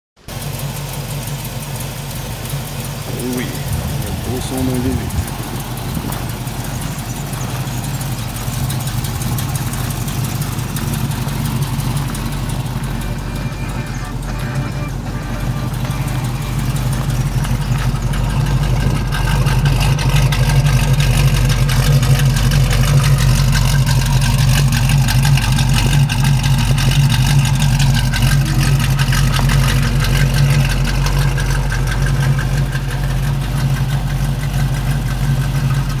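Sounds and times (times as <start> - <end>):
car engine idling: 0.2 - 36.0.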